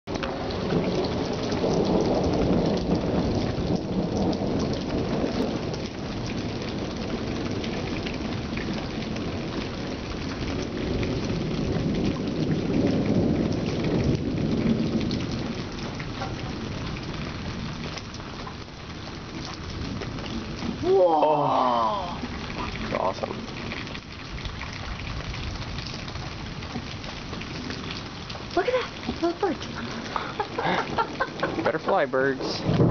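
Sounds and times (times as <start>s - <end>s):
rain falling steadily: 0.0s - 32.9s
thunder rumbling: 0.1s - 32.9s.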